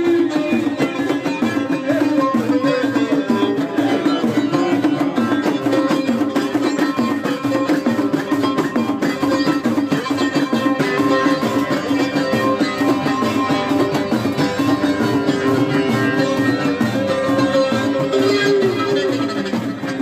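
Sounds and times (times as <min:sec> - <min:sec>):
hand drums beating: 0:00.0 - 0:20.0
plucked string melody: 0:00.0 - 0:20.0.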